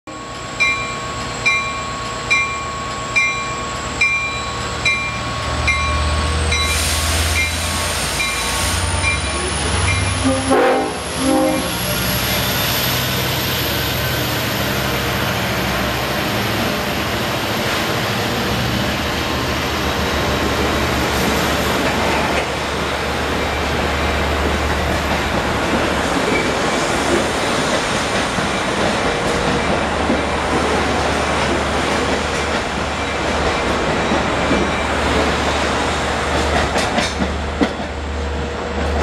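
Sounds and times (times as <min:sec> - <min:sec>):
locomotive engine drone: 0:00.1 - 0:39.0
train wheels rumbling on rails: 0:00.1 - 0:39.0.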